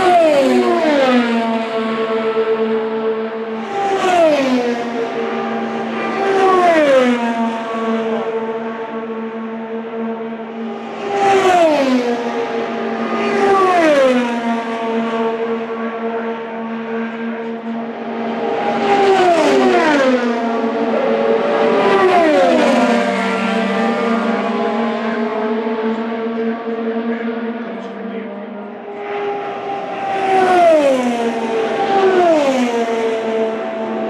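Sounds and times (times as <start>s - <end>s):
race cars passing at speed: 0.0s - 34.0s.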